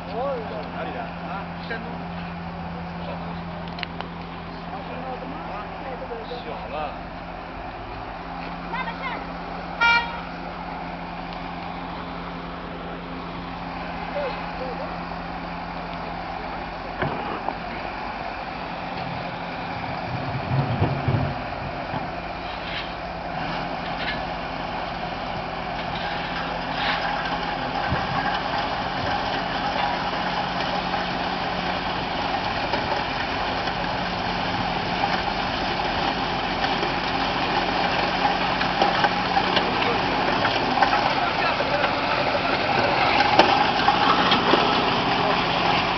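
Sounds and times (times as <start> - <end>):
loader engine running: 0.0 - 45.9.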